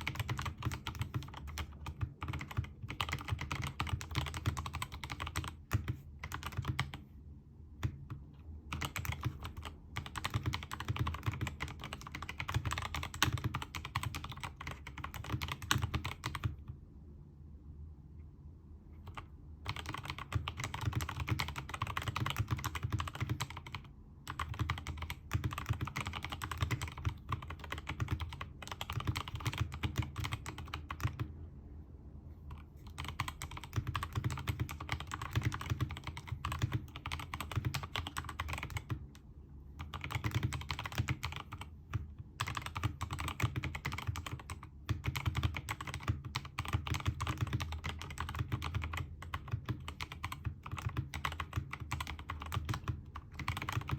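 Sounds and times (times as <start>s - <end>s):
fast typing on mechanical keyboard: 0.0s - 7.1s, 7.8s - 16.7s, 19.0s - 31.3s, 32.5s - 39.2s, 39.8s - 53.9s.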